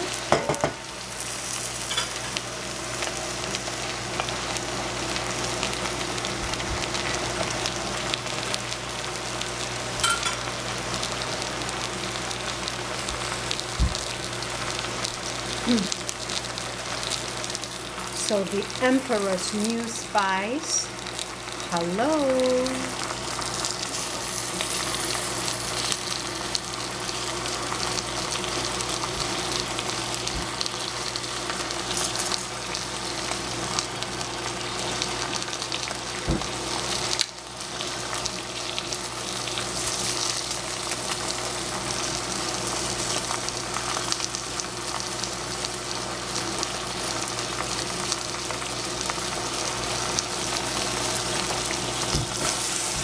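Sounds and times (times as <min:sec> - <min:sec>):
spinach sizzling in oil: 0:00.0 - 0:53.0.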